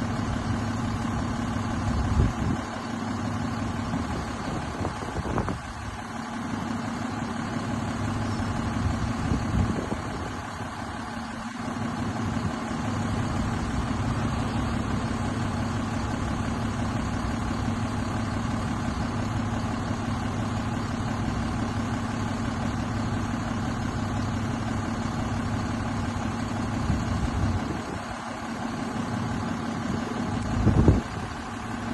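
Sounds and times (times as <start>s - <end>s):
truck diesel engine idling: 0.0s - 31.9s.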